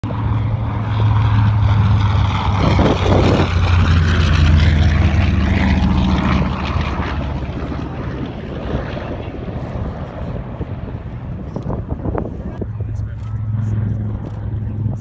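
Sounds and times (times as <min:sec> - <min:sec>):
propeller plane droning past: 0:00.0 - 0:15.0.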